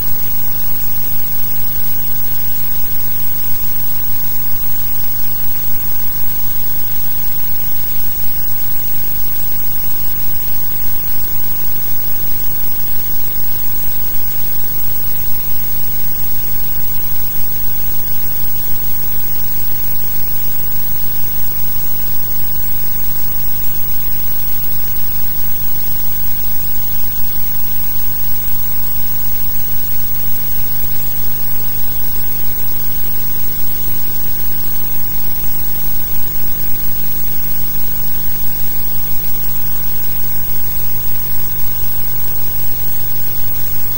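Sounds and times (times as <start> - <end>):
buzzing electrical hum: 0.0 - 43.9.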